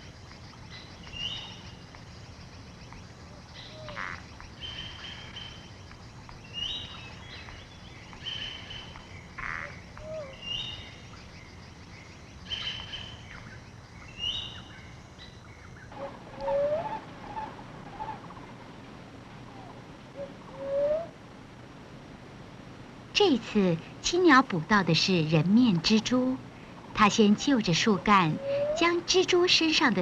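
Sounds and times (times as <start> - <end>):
birds calling: 0.0 - 21.3, 23.4 - 30.0.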